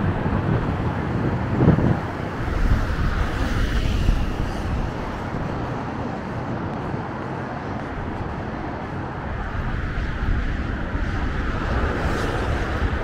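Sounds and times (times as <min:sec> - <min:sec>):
highway traffic: 0:00.0 - 0:13.0.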